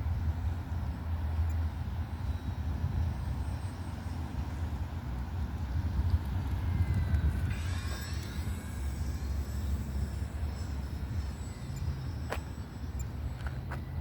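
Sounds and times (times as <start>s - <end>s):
wind rumble on microphone: 0.0s - 14.0s
model plane motor whine: 1.4s - 14.0s.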